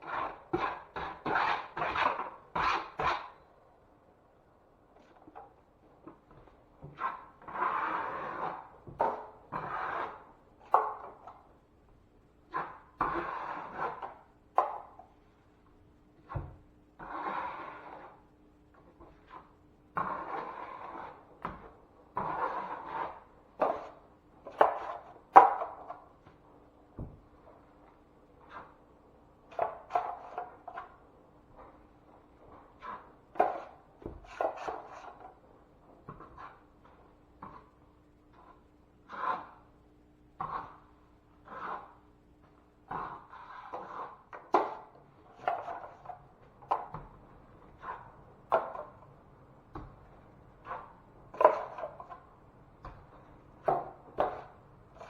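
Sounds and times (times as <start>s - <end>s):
tool scraping drywall: 0.0s - 3.6s, 5.0s - 11.6s, 12.5s - 15.3s, 16.2s - 49.2s, 49.8s - 55.0s.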